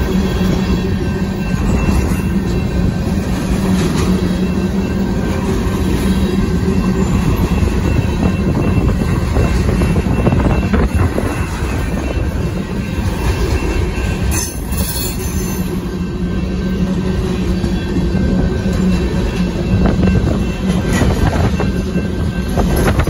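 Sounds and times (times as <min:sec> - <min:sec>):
steel wheels rumbling on rails: 0:00.0 - 0:23.0.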